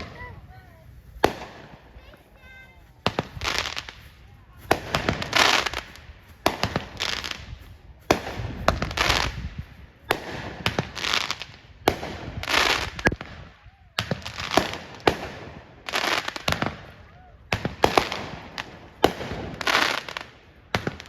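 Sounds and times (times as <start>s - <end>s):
fireworks bangs: 0.0s - 21.0s
fireworks crackling: 0.0s - 21.0s.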